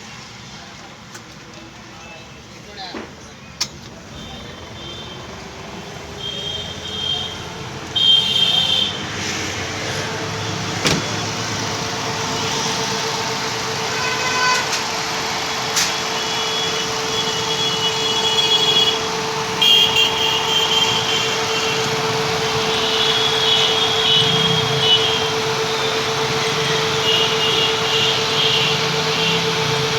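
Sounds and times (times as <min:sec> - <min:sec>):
car engine running with whine: 0:03.7 - 0:29.9.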